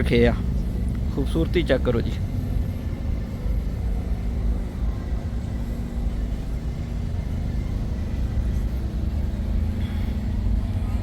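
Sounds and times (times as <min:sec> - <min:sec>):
large vehicle engine idling: 0:00.0 - 0:11.0.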